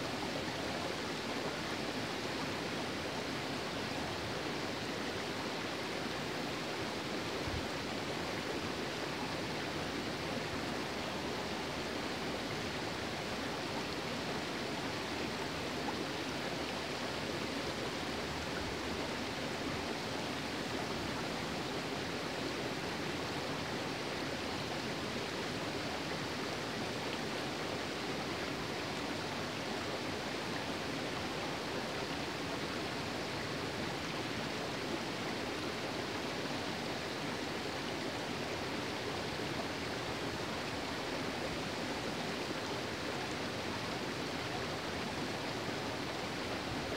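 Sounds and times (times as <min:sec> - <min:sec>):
stream rushing over stones: 0:00.0 - 0:46.9.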